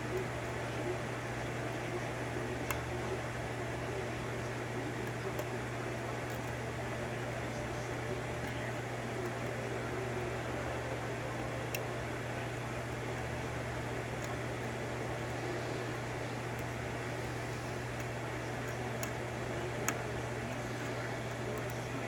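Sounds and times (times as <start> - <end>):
machine hum and hiss: 0.0 - 22.0.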